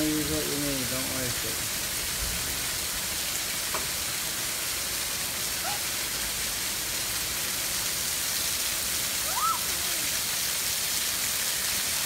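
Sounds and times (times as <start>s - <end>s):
gutter water splashing on concrete: 0.0s - 12.0s
heavy rain: 0.0s - 12.0s.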